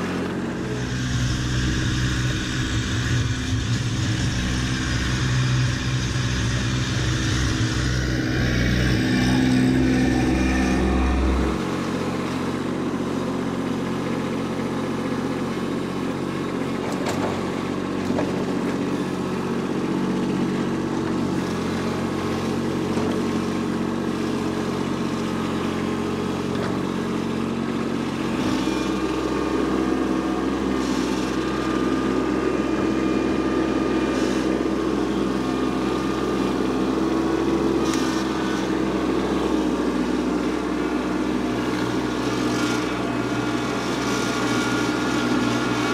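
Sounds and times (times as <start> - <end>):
loader scraping dirt: 0.0 - 45.9
tractor diesel engine running: 0.0 - 45.9.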